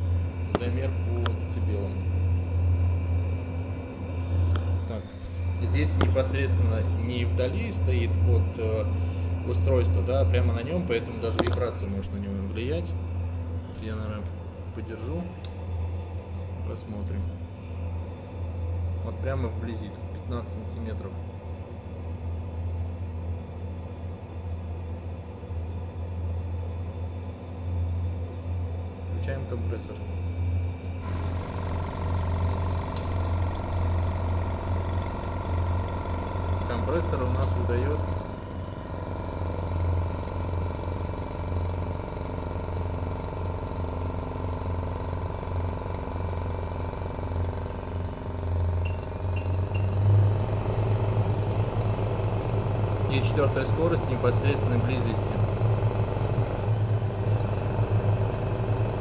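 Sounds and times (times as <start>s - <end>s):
air compressor running: 0.0s - 21.1s, 28.8s - 59.0s
dust extraction unit humming: 0.0s - 59.0s.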